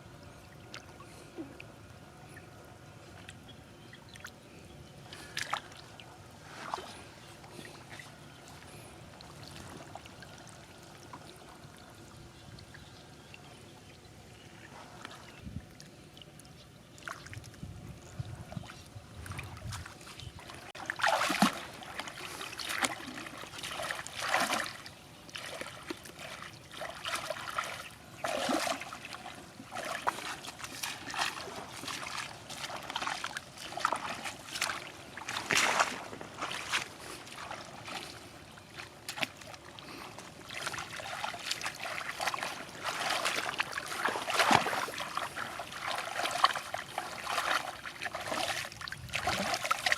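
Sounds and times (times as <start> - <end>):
water trickling and splashing: 5.0 - 49.9.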